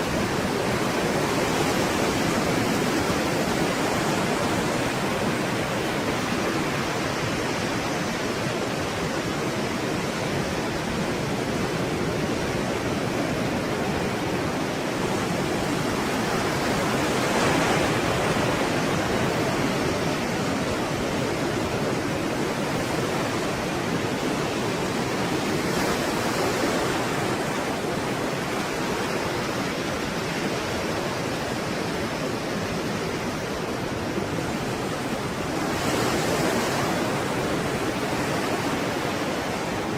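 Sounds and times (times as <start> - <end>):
breaking waves: 0.0 - 39.9.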